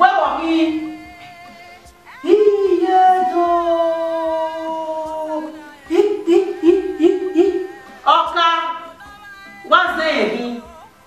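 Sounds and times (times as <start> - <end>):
woman wailing and sobbing: 0.0 - 11.0.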